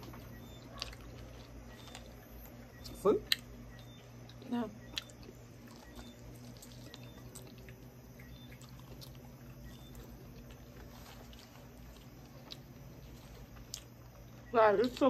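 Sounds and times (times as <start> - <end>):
low steady hum: 0.0 - 15.0
person chewing with mouth clicks: 2.8 - 15.0.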